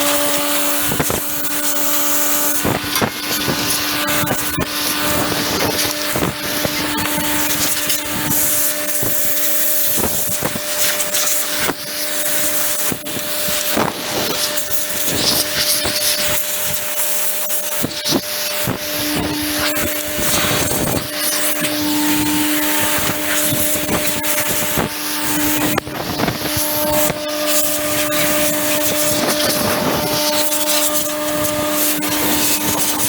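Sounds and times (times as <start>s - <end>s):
air blow gun hissing: 0.0s - 33.0s
air compressor humming: 0.0s - 33.0s.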